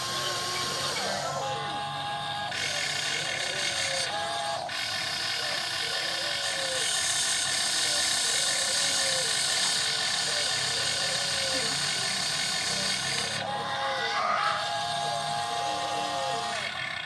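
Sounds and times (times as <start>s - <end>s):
falling motor whines: 0.0s - 17.0s
gear motors whirring: 0.0s - 17.0s.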